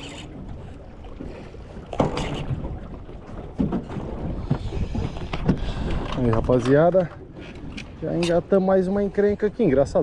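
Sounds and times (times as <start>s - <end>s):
water slapping boat hull: 0.0s - 10.0s
wind buffeting microphone: 0.2s - 10.0s.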